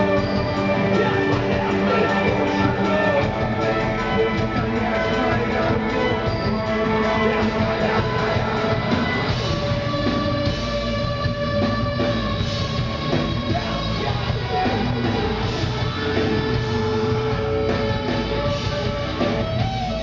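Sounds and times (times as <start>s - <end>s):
heavy rock band playing live: 0.0s - 20.0s.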